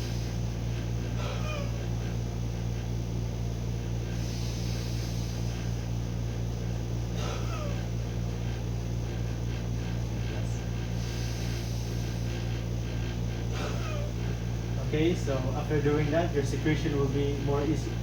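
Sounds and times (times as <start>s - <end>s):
slow breathing: 0.0s - 15.6s
low electrical hum: 0.0s - 18.0s.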